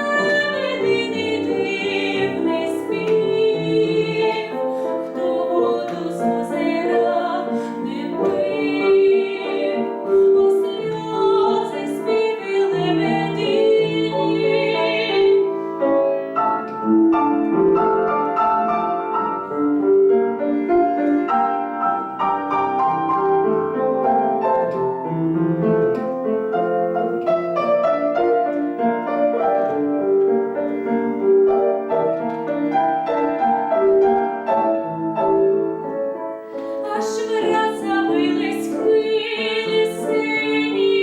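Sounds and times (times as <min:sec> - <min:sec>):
slow piano interlude: 0:00.0 - 0:41.0.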